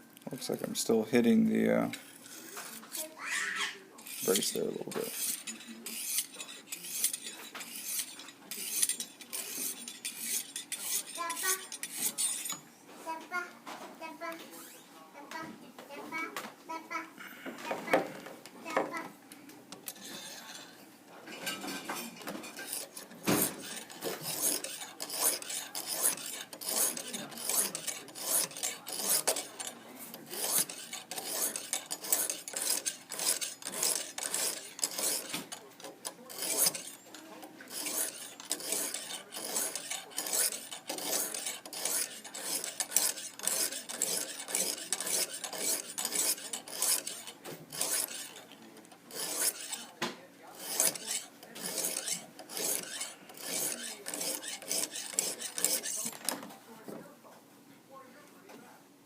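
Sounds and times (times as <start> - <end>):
hone scraping knife edge: 0.4 - 12.7, 14.3 - 14.9, 19.7 - 56.5.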